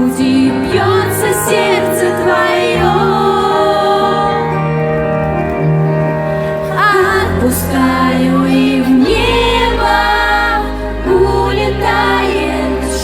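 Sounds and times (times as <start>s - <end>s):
deep bass: 0.0s - 13.0s
live pop band with singing: 0.0s - 13.0s.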